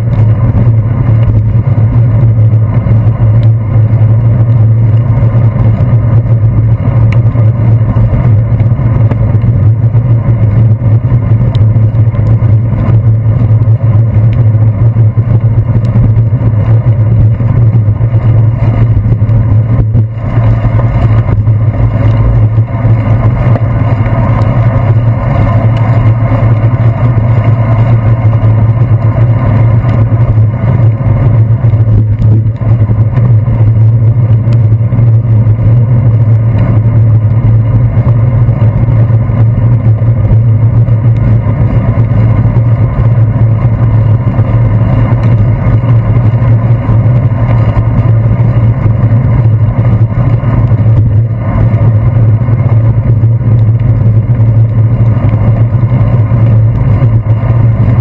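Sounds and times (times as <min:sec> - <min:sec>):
road vibration: 0:00.0 - 0:58.0
wind rumble: 0:00.0 - 0:58.0.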